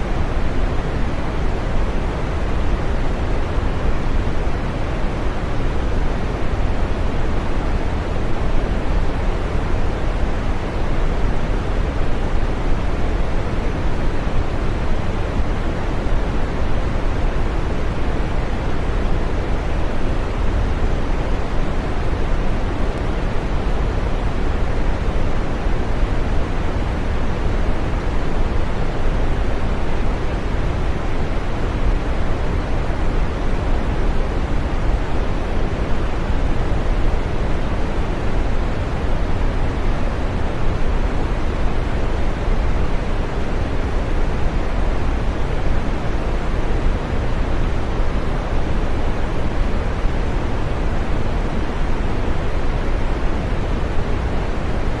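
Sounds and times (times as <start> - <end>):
steady green noise hiss: 0.0 - 55.0.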